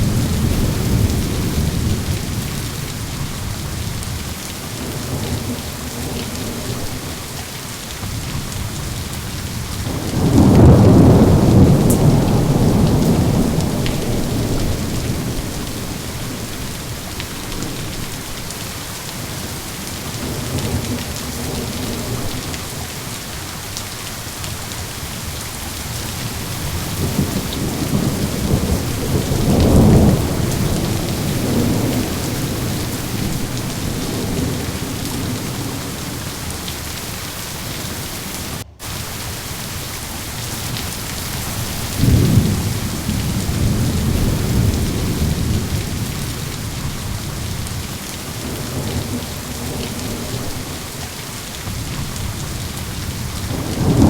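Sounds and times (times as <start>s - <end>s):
rolling thunder: 0.0s - 7.3s, 8.0s - 23.2s, 25.8s - 37.1s, 40.6s - 54.0s
steady rain: 0.0s - 54.0s.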